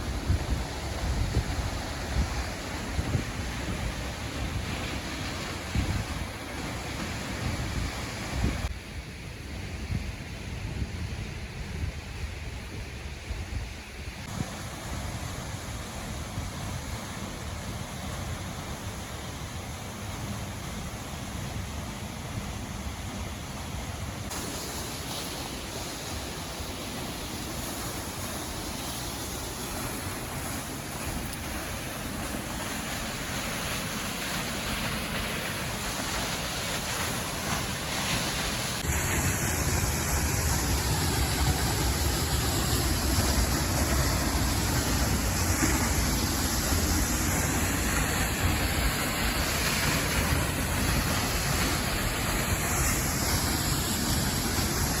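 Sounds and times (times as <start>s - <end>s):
waterfall roaring: 0.0s - 8.8s, 14.2s - 55.0s.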